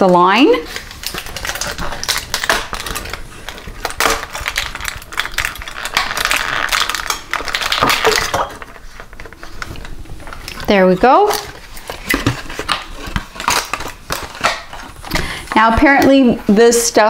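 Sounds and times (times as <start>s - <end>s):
foil blister pack crinkling: 0.0s - 17.0s.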